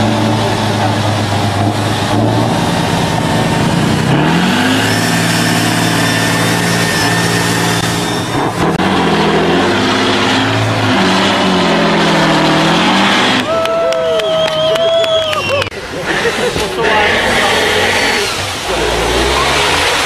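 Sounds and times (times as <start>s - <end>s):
truck diesel engine under load: 0.0s - 20.0s.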